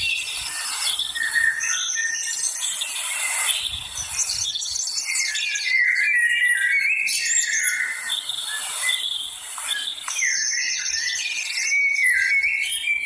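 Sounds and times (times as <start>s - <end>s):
birds singing and chirping: 0.0s - 13.0s.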